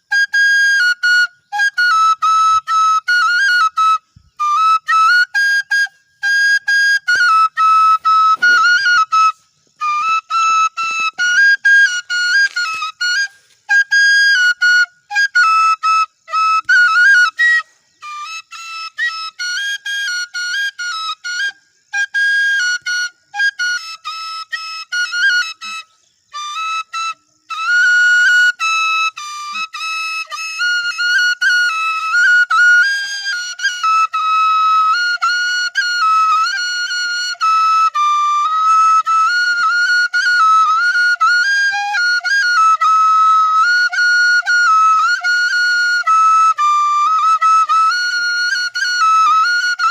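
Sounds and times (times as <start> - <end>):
bamboo flute melody: 0.0 - 49.9.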